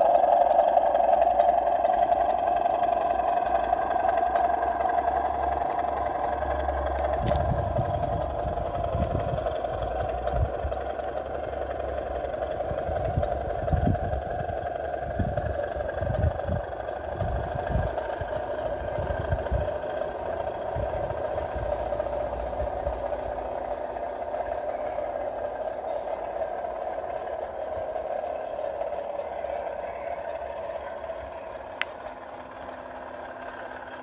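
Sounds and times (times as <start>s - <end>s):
model diesel engine sound: 0.0s - 34.0s.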